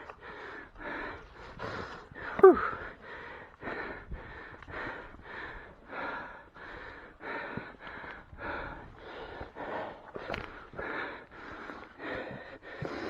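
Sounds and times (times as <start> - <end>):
person panting: 0.0 - 13.0.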